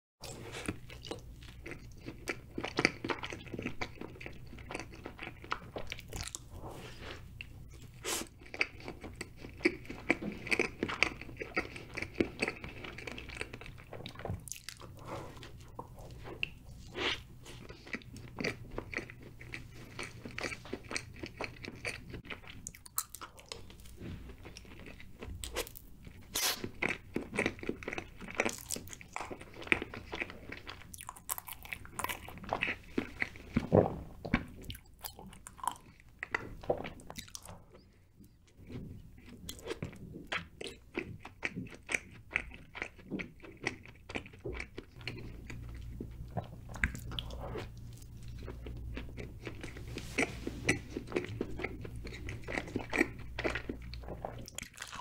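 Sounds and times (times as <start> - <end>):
faint steady hum: 0.2 - 55.0
person chewing cake: 0.2 - 55.0.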